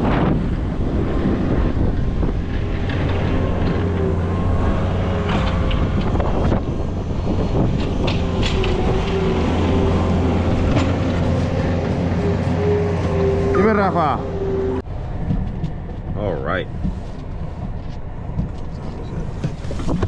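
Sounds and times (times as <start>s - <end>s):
diesel engine running: 0.0s - 20.0s
plow pushing snow: 0.0s - 20.0s
wind on microphone: 0.0s - 20.0s.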